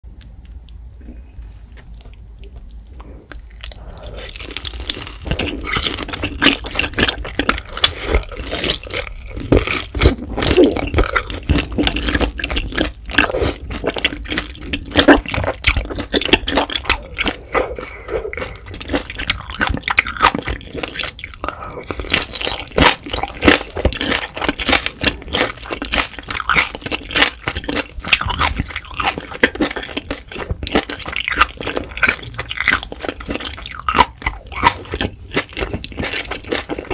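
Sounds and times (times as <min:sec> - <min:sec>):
close chewing with mouth smacks: 0:01.4 - 0:36.9.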